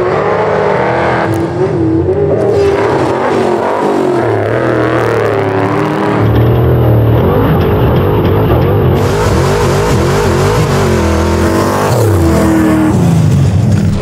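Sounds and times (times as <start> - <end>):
off-road truck engines racing: 0.0 - 14.0.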